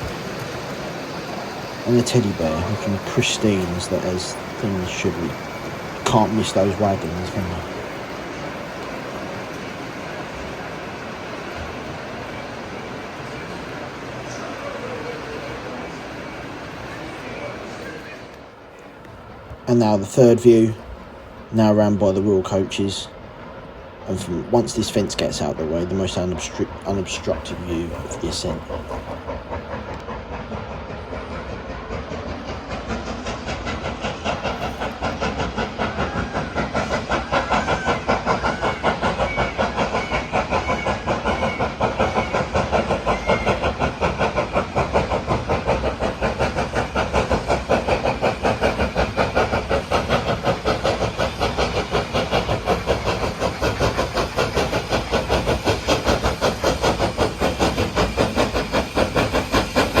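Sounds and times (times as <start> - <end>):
steam hissing: 0.0 - 60.0
steam locomotive exhaust beats: 0.0 - 60.0.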